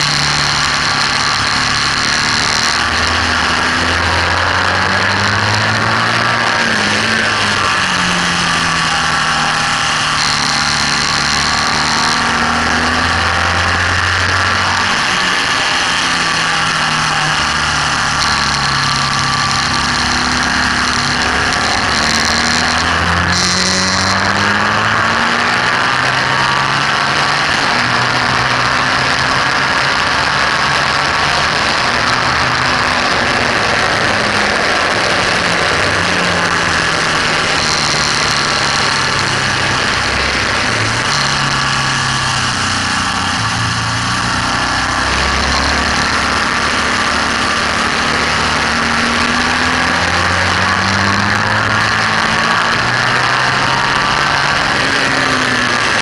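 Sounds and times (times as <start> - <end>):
motorcycle engine accelerating: 0.0 - 56.0
wind noise on microphone: 0.0 - 56.0.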